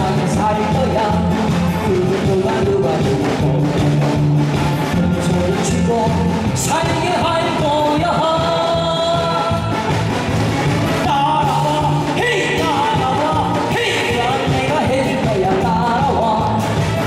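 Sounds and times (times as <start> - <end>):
person singing with vibrato: 0.0 - 10.1, 10.8 - 17.0
loud backing music: 0.0 - 17.0.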